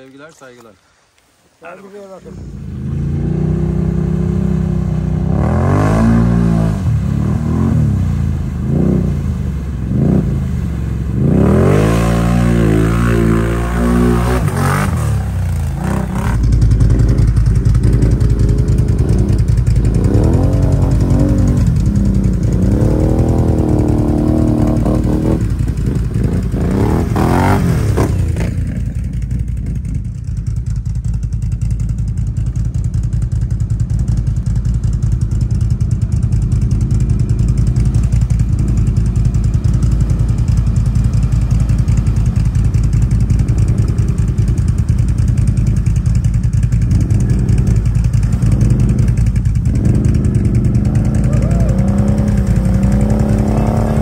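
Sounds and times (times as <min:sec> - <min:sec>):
atv engine revving: 0:02.3 - 0:54.0.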